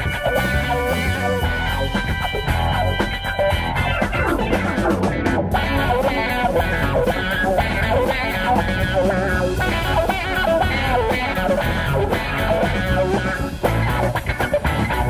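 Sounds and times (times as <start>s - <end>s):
guitar melody: 0.0s - 15.0s
rock band playing: 0.0s - 15.0s.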